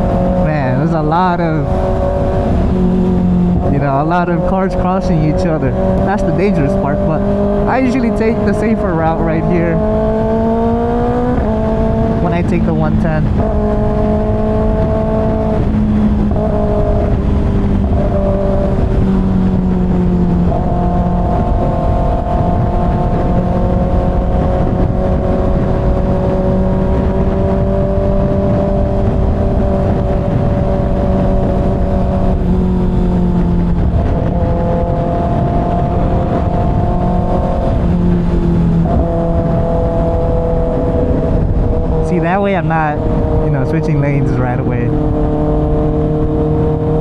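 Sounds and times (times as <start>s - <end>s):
motorcycle engine cruising: 0.0s - 47.0s
wind and road noise: 0.0s - 47.0s.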